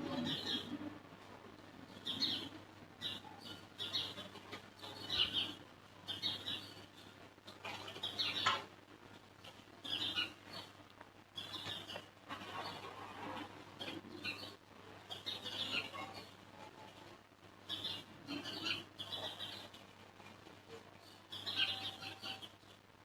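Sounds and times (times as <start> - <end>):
small birds chirping: 0.0 - 1.0, 1.7 - 22.9.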